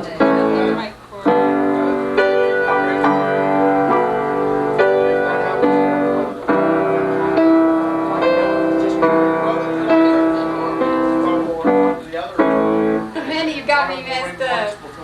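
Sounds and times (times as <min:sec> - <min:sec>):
keyboard playing sustained chords: 0:00.0 - 0:13.3.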